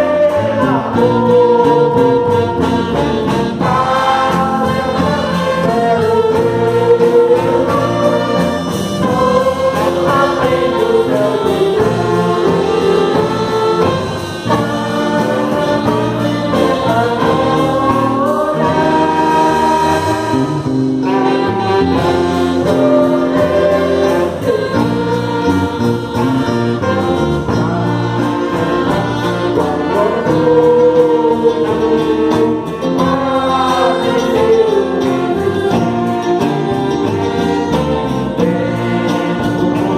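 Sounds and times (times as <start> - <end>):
choir singing: 0.0 - 39.9
orchestra with brass playing: 0.0 - 39.9.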